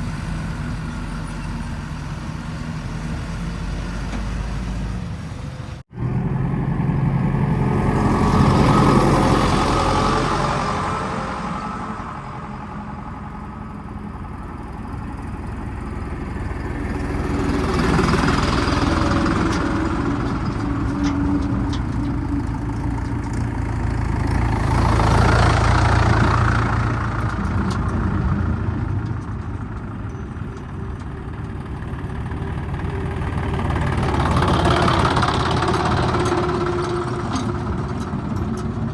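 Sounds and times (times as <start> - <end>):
backhoe diesel engine working: 0.0 - 38.9.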